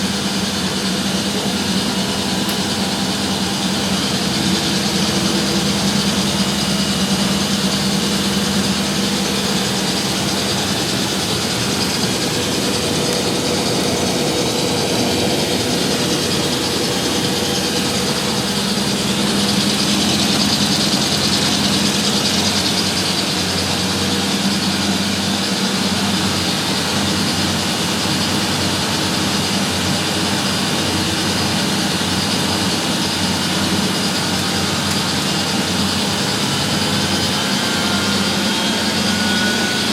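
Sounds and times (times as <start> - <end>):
washing machines spinning: 0.0 - 39.9.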